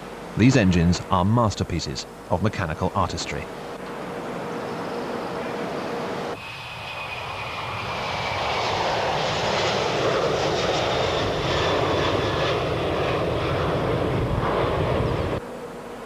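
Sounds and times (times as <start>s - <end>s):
jet engines running loud: 0.0s - 15.4s.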